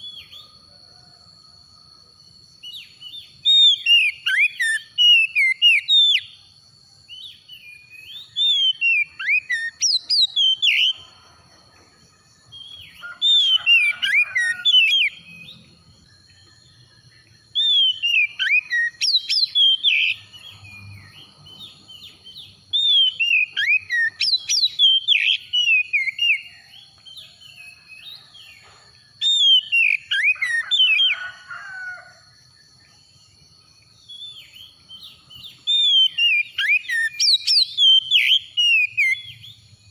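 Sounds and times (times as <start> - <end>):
bird singing whistles and chirps: 0.0 - 1.1, 2.6 - 11.2, 12.4 - 31.3, 34.0 - 39.9.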